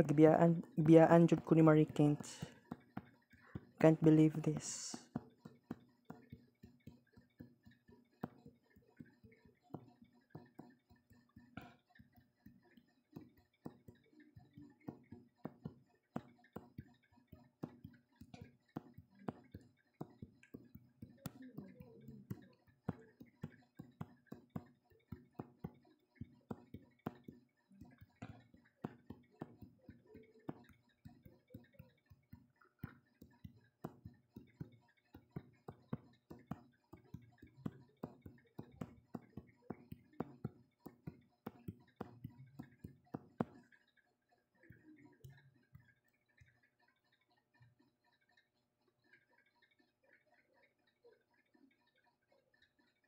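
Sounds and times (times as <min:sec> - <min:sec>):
faint irregular clicks and taps: 0:00.0 - 0:53.0.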